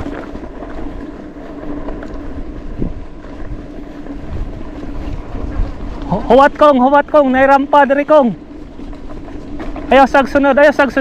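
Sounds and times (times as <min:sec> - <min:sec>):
bike tyre and frame rattle: 0:00.0 - 0:11.0
steady hum: 0:00.0 - 0:11.0
wind on microphone: 0:00.0 - 0:11.0.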